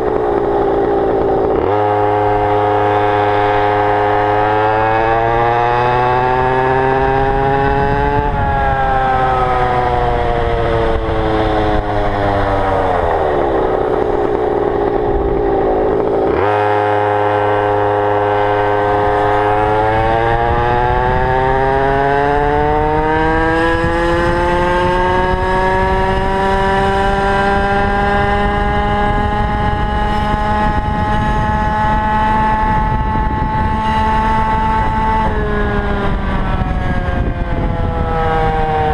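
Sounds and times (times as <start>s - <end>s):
small two-stroke engine running: 0.0s - 38.9s.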